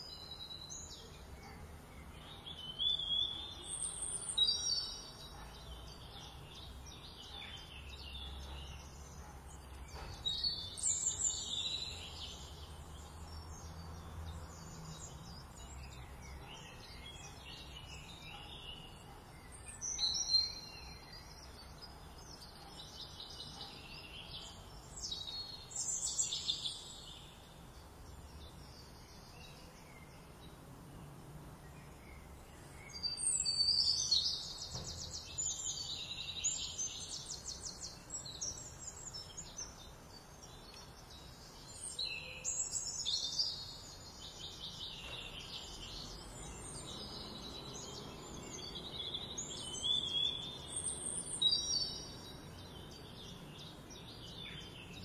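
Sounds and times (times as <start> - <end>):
faint outdoor hiss: 0.0 - 55.0
songbirds chirping and trilling: 0.0 - 55.0.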